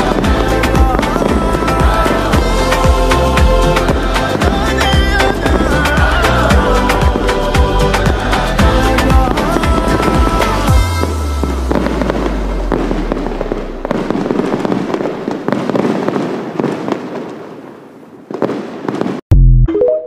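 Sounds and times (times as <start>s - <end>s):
deep firework boom: 0.0s - 17.3s
fireworks crackling and popping: 0.0s - 19.2s.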